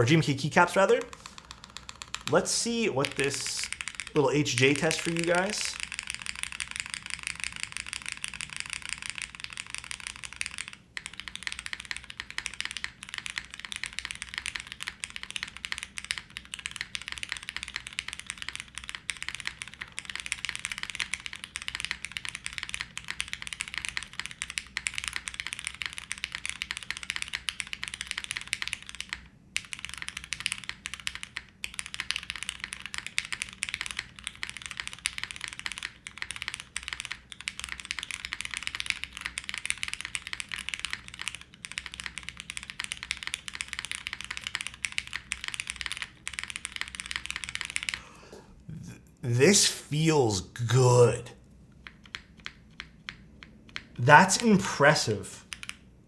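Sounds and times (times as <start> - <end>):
fast typing on mechanical keyboard: 0.1 - 48.0, 51.8 - 54.5, 55.4 - 55.9.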